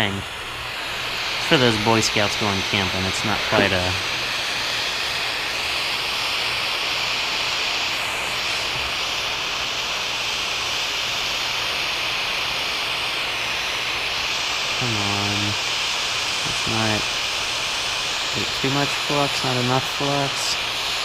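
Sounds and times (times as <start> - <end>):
propane torch flame hissing: 0.0 - 21.0.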